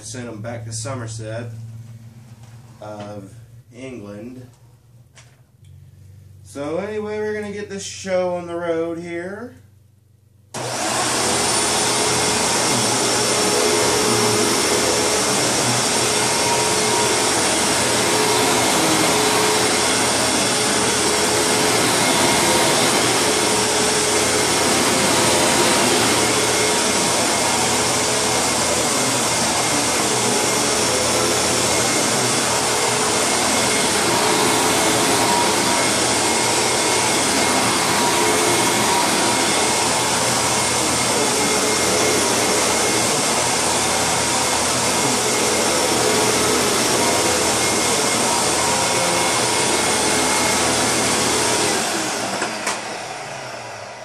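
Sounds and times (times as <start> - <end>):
vacuum cleaner running: 10.6 - 54.0.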